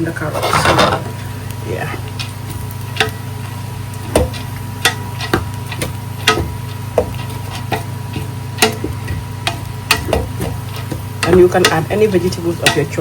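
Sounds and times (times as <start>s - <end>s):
steady low hum: 0.0s - 13.0s
spatula knocking and scraping pan: 0.1s - 13.0s.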